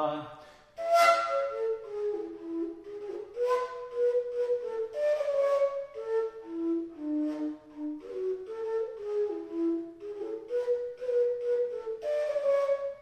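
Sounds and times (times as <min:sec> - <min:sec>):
overtone flute playing folk melody: 0:00.8 - 0:13.0.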